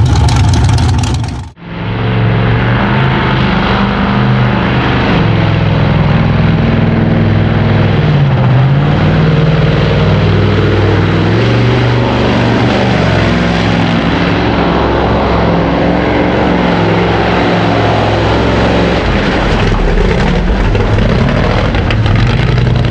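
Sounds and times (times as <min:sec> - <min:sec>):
truck engines revving high: 0:00.0 - 0:01.6, 0:02.3 - 0:22.9.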